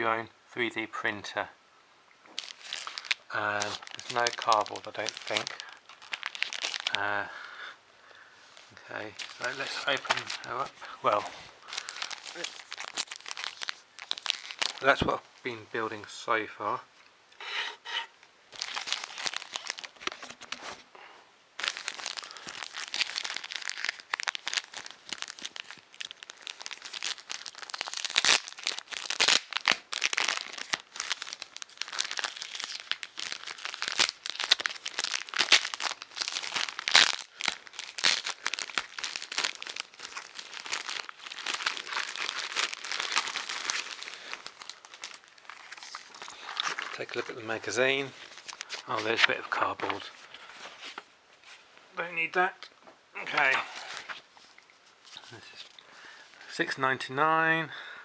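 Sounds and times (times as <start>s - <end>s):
plastic packaging crinkling: 2.3s - 7.3s, 8.9s - 15.6s, 18.5s - 20.8s, 21.6s - 51.6s, 53.3s - 55.8s.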